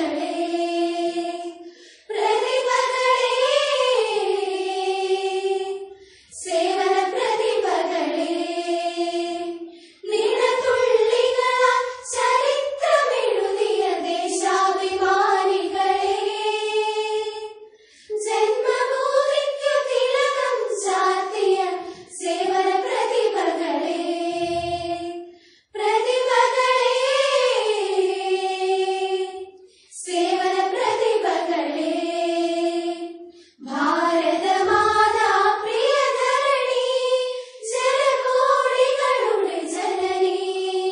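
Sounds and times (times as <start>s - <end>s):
girls singing in unison: 0.0s - 40.9s.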